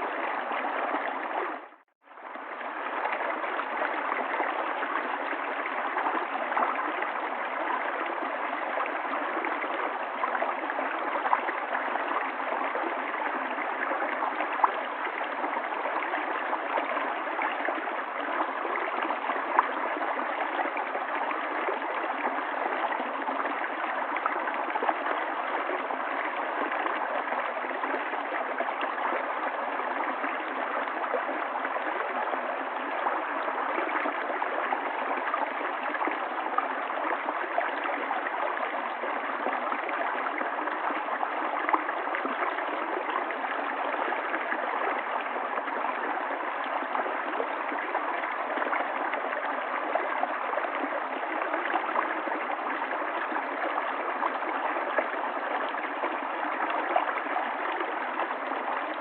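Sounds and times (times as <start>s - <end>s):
river water babbling over stones: 0.0s - 59.0s.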